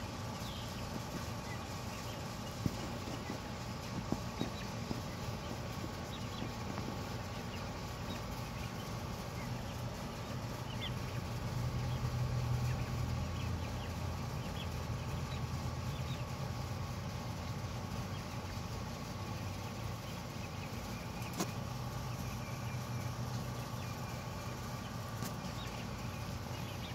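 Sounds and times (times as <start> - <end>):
steady low hum: 0.0 - 26.9
turkey poults peeping: 0.0 - 26.9.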